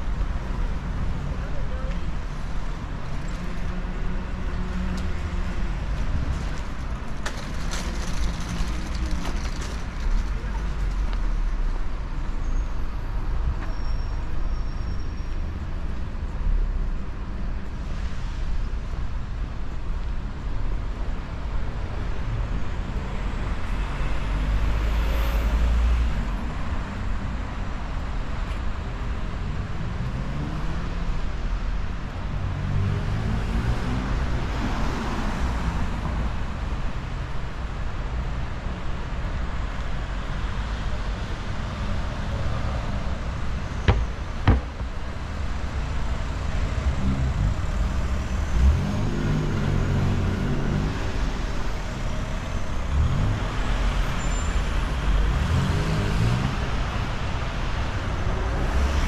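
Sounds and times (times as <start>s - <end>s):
road traffic rumble: 0.0s - 59.0s
vehicles passing by: 0.0s - 59.0s.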